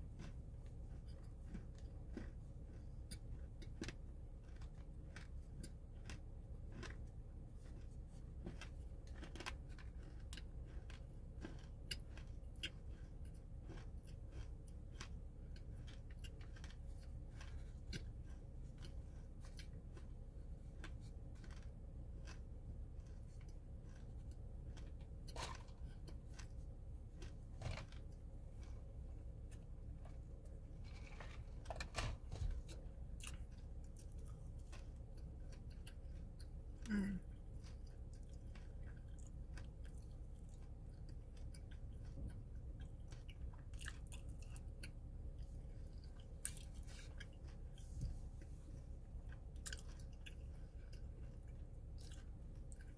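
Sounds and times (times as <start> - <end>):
crunching of chewing: 0.0 - 52.9.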